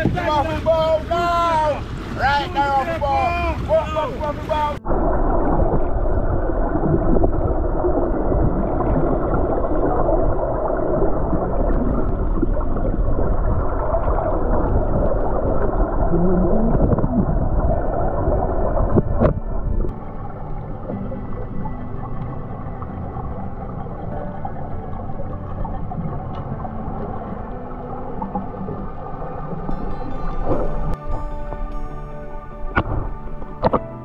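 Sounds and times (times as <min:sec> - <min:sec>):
underwater rumble and gurgle: 0:00.0 - 0:34.0.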